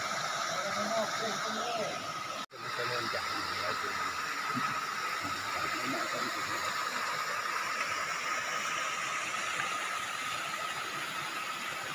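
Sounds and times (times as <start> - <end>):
waterfall pouring into pool: 0.0 - 11.9.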